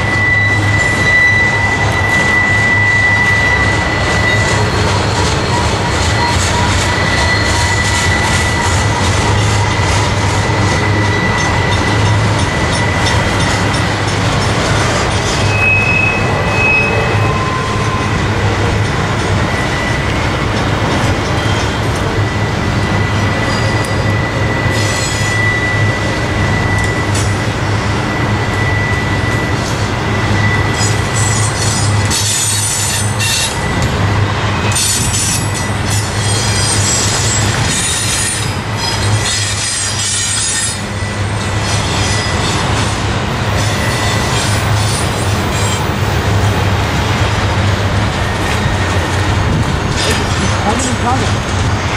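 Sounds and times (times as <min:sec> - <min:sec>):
high-pitched wheel squeal: 0:00.0 - 0:42.9, 0:43.5 - 0:47.3
train wheels rumbling on rail: 0:00.0 - 0:51.9.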